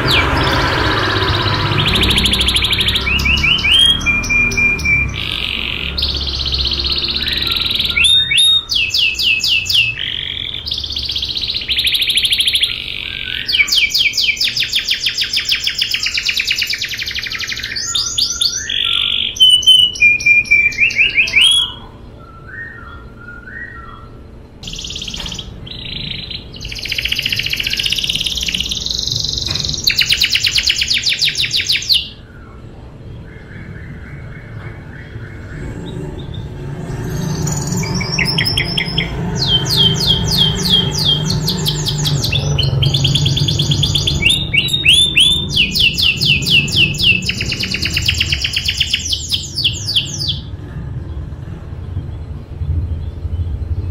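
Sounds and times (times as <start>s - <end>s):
canary singing trills: 0.0s - 51.6s.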